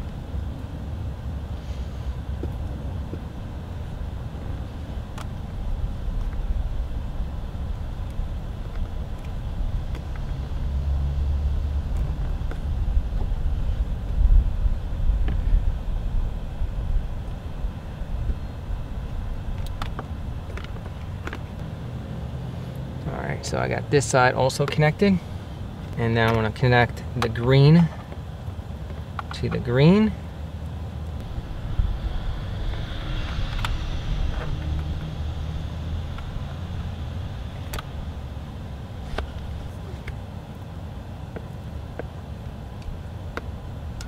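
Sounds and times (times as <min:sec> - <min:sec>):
low rumbling background noise: 0:00.0 - 0:44.0.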